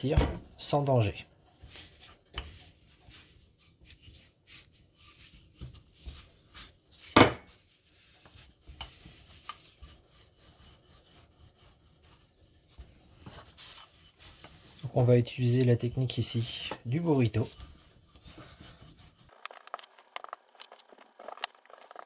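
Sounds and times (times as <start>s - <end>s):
rolling pin rolling dough: 0.0s - 22.0s.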